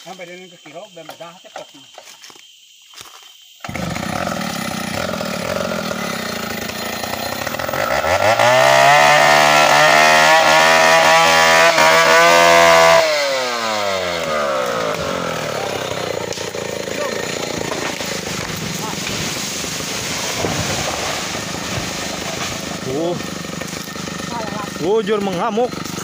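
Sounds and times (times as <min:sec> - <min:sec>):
chainsaw cutting into trunk: 0:03.6 - 0:26.0
chainsaw engine revving: 0:03.6 - 0:26.0.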